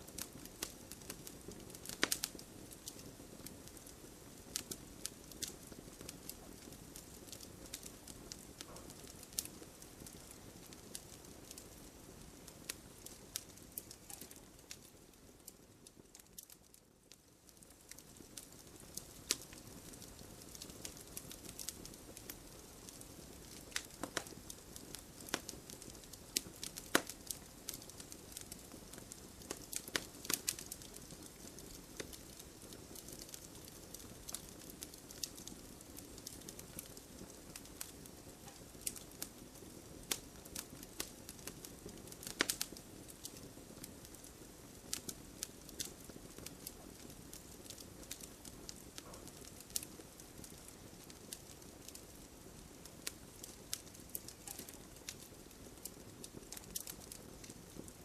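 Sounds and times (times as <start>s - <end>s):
campfire crackling: 0.0s - 58.0s
low rush of flames: 0.1s - 58.0s.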